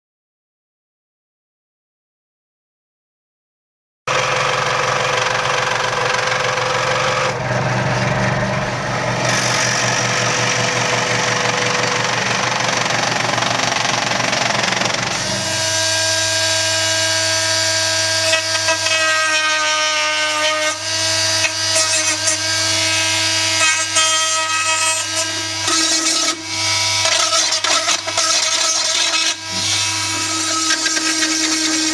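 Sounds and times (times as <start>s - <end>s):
small power tool whining: 4.1s - 31.9s.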